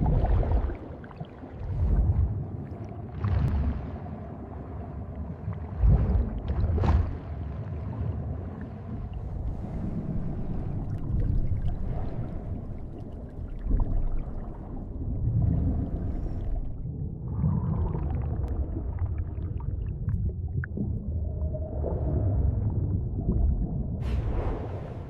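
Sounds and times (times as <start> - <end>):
low underwater rumbling wash: 0.0 - 25.0.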